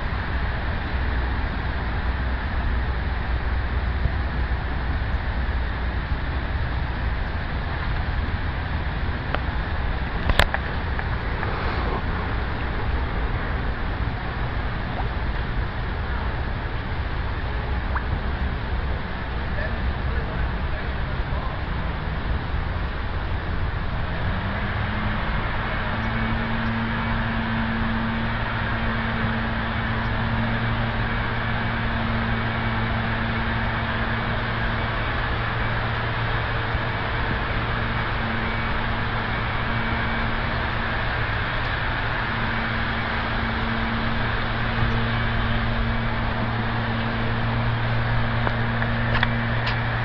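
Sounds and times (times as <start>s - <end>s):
constant rushing noise: 0.0s - 50.0s
machine hum: 0.0s - 50.0s.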